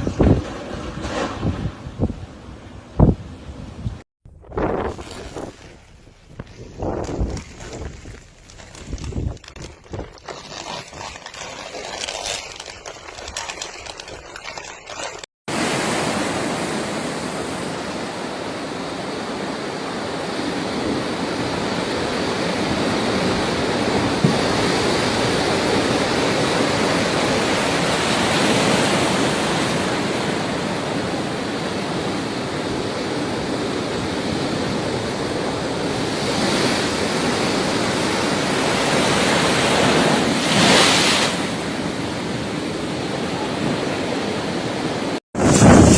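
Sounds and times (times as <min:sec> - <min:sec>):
strong gusting wind: 0:00.0 - 0:10.2, 0:15.6 - 0:45.9.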